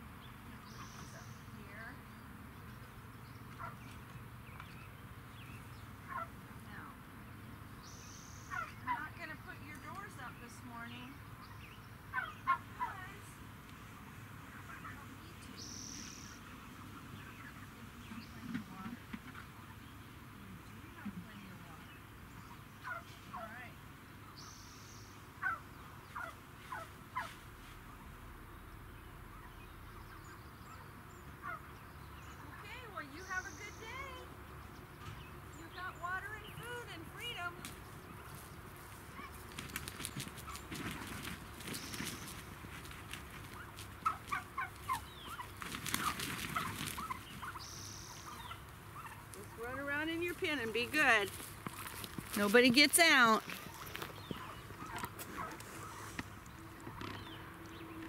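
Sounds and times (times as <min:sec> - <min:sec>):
steady low background noise: 0:00.0 - 0:58.0
young turkeys peeping: 0:07.6 - 0:58.0.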